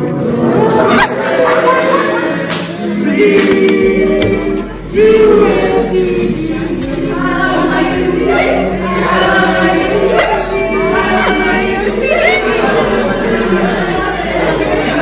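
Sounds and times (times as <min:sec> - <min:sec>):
group singing unaccompanied: 0:00.0 - 0:15.0.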